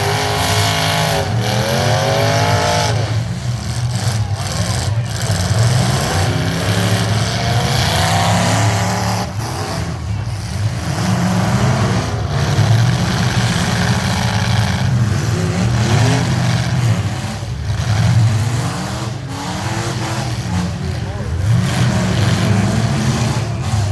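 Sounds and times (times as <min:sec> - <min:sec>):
truck engines accelerating: 0:00.0 - 0:23.9.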